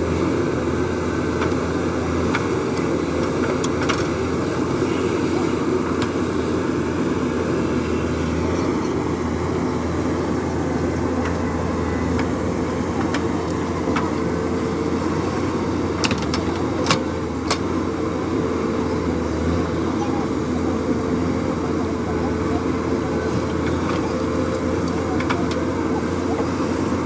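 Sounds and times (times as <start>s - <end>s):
backhoe digging soil: 0.0s - 27.0s
diesel engine under load: 0.0s - 27.0s.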